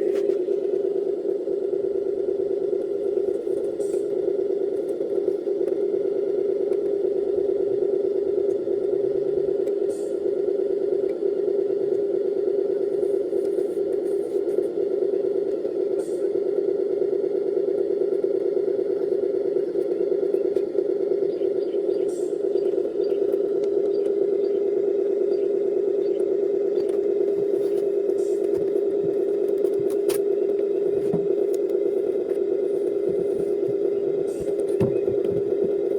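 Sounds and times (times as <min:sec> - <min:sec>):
model truck mechanical hum: 0:00.0 - 0:35.9.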